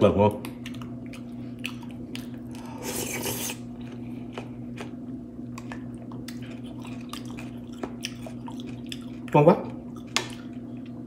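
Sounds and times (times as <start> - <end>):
steady low hum: 0.0 - 11.0
person chewing food: 0.4 - 11.0.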